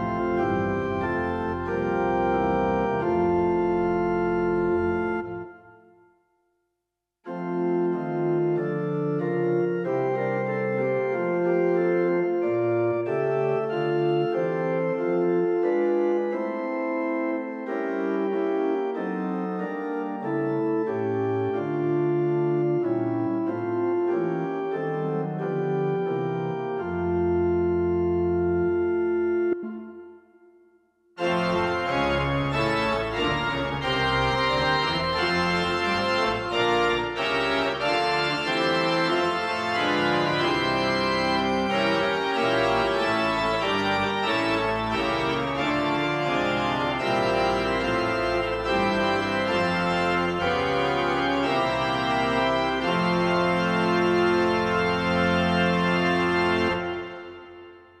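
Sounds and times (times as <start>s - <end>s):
keyboard playing hymn in organ sound: 0.0s - 6.1s, 7.3s - 30.6s, 31.2s - 58.0s.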